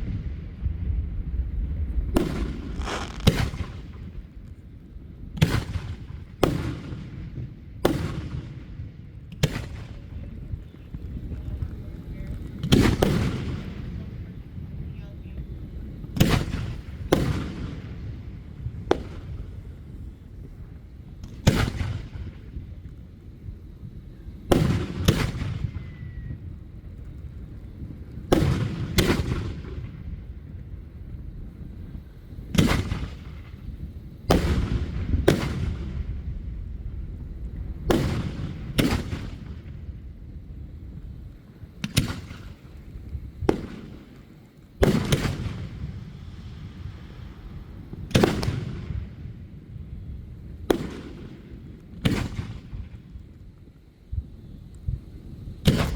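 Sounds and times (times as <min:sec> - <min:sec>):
fireworks booming: 0:00.0 - 0:04.3, 0:09.4 - 0:14.8, 0:15.6 - 0:23.0, 0:24.4 - 0:31.1, 0:31.9 - 0:53.1, 0:54.9 - 0:55.9.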